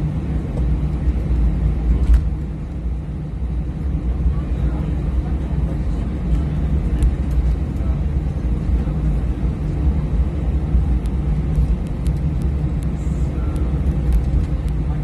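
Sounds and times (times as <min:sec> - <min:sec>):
aircraft engines running: 0:00.0 - 0:15.0
wheels rolling on taxiway: 0:00.2 - 0:15.0.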